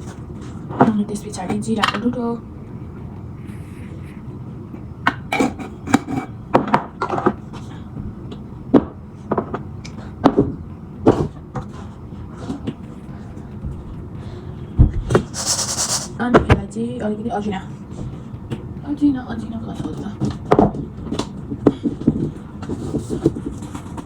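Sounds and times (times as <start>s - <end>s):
faint room hum: 0.0s - 24.0s.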